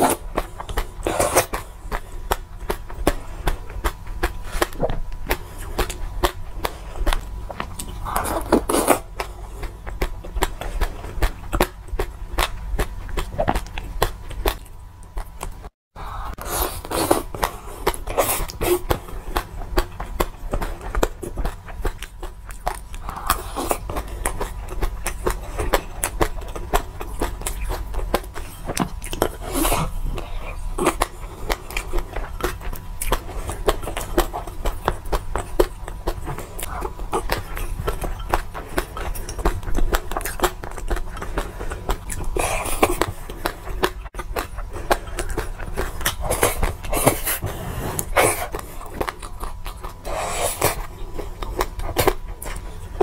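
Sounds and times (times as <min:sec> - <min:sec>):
chewing and crunching seeds: 0:00.0 - 0:53.0.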